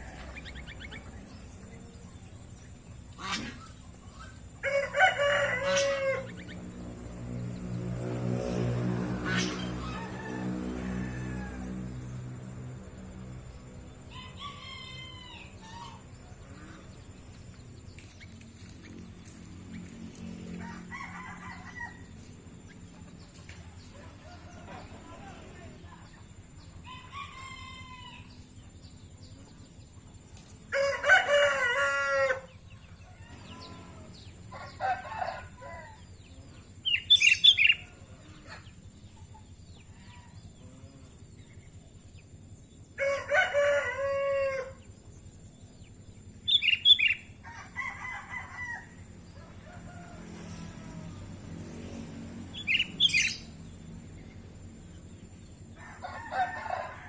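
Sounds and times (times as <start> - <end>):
songbird chirping: 0.0 - 8.8, 10.8 - 47.9, 49.1 - 57.0
roosters crowing: 0.0 - 41.6, 42.3 - 57.0.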